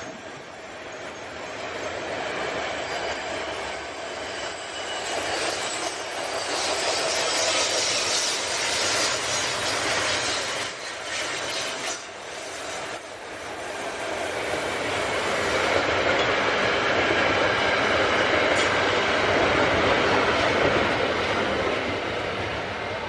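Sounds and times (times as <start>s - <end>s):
high squeal of wheels on rail: 0.0s - 23.0s
train wheels rolling over rails: 0.0s - 23.0s.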